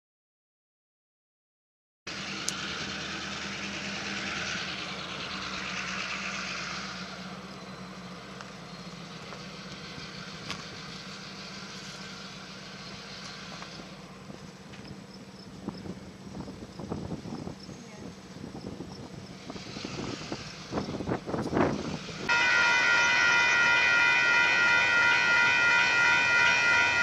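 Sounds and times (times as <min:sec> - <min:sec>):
low engine hum: 0:02.1 - 0:27.0.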